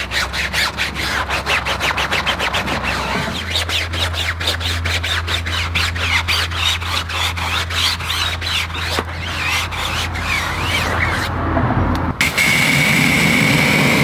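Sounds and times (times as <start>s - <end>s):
bristles squeaking on rubber: 0.0s - 11.3s
brush scrubbing wet tyre: 0.0s - 11.4s.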